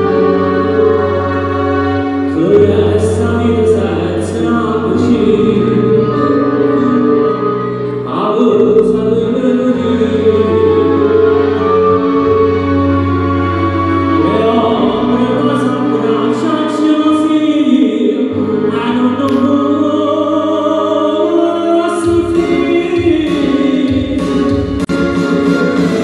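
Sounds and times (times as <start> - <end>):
man singing into a microphone: 0.0 - 24.9
amplified instrumental backing: 0.0 - 26.0
long-held bass notes: 0.0 - 26.0.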